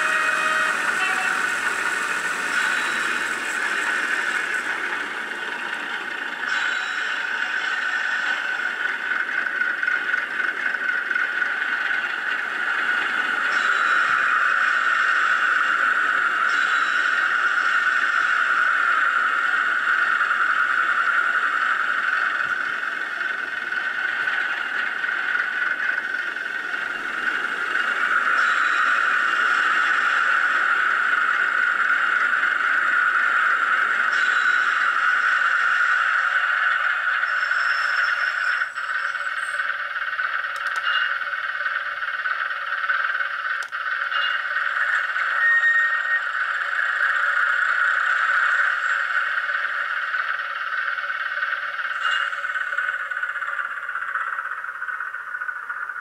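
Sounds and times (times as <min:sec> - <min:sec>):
diesel train engine from small speaker: 0:00.0 - 0:56.0
train brakes squealing: 0:00.0 - 0:56.0.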